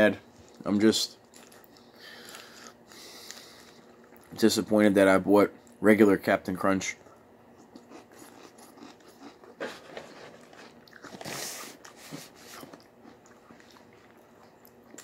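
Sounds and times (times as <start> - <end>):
chewing and crunching cereal: 0.3 - 4.7, 6.9 - 15.0.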